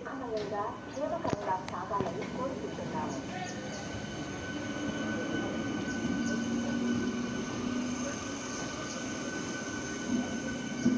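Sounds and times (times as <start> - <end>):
electric train humming: 0.0 - 10.9.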